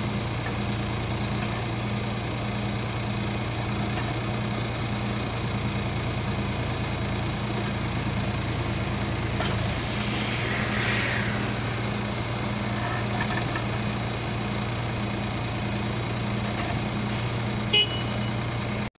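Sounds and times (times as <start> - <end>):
excavator engine running: 0.6 - 18.8.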